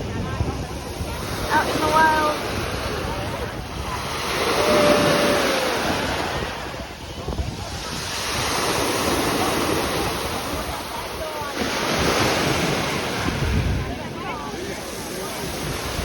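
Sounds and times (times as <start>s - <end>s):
sea waves washing on shore: 0.0s - 16.0s
wind buffeting microphone: 0.0s - 16.0s.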